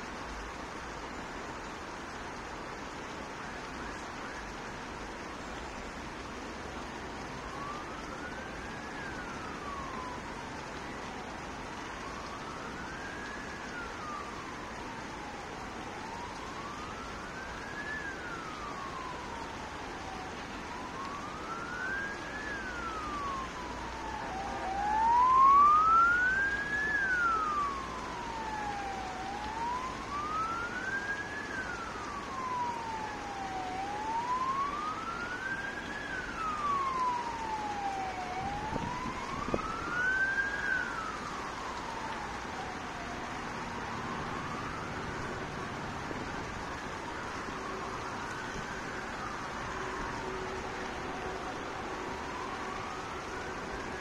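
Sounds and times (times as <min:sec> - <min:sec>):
siren wailing: 0:07.2 - 0:54.0.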